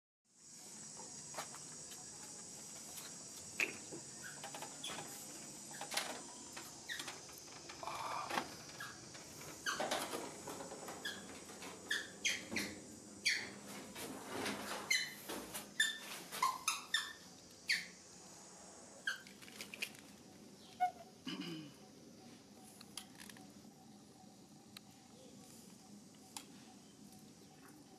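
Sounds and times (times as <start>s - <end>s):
steady high hiss: 0.3s - 27.9s.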